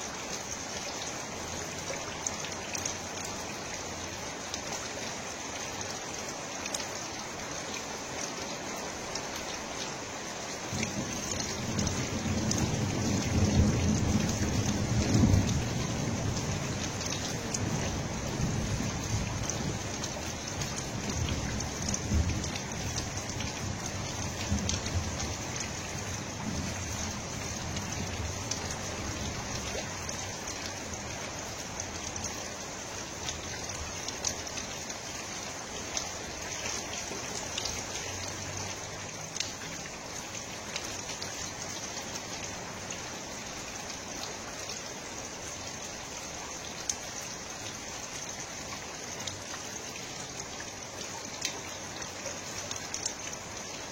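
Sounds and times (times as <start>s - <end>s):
steady water noise: 0.0s - 53.9s.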